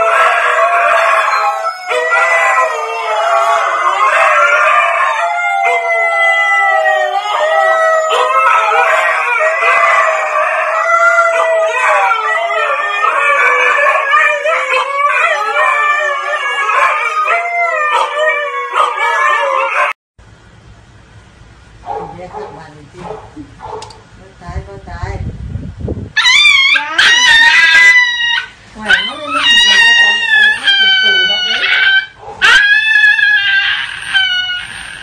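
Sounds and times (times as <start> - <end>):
dogs howling: 0.0 - 20.0, 26.2 - 35.0.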